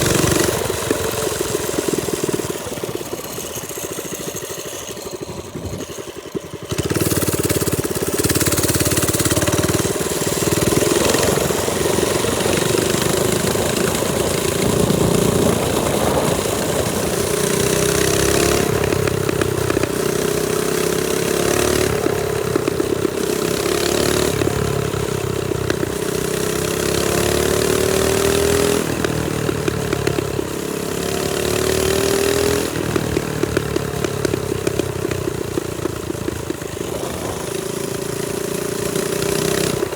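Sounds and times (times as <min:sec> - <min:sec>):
minibike engine revving: 0:00.0 - 0:39.9.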